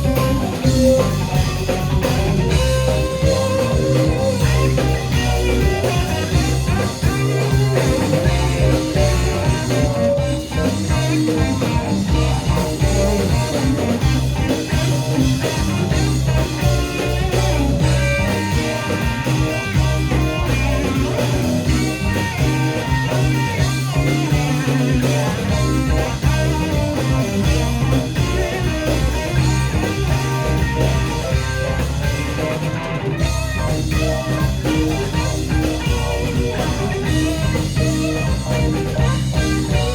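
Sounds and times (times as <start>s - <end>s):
bass guitar: 0.0s - 39.9s
drum kit: 0.0s - 39.9s
electric guitar lines: 0.0s - 39.9s.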